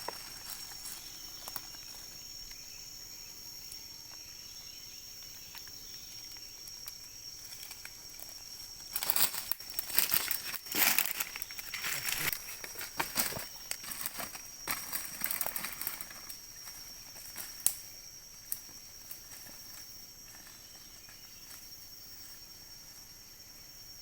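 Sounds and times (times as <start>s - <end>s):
rustling of dry leaves: 0.0s - 3.0s, 5.1s - 22.3s
high insect drone: 0.0s - 24.0s.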